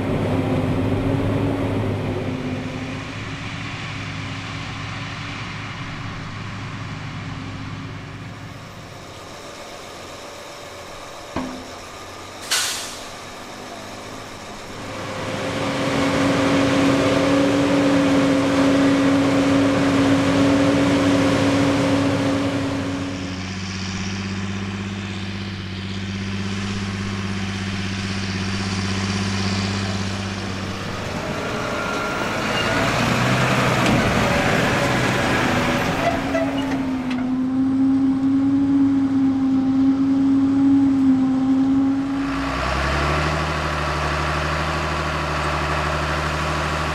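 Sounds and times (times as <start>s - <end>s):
diesel machinery engine hum: 0.0s - 46.9s.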